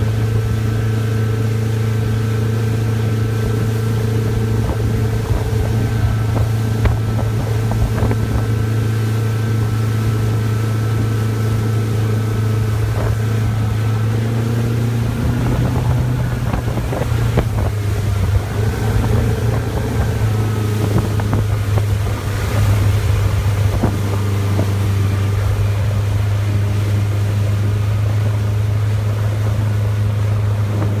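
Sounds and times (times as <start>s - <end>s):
churning wake rushing: 0.0s - 31.0s
motorboat engine drone: 0.0s - 31.0s
wind on microphone: 2.2s - 31.0s.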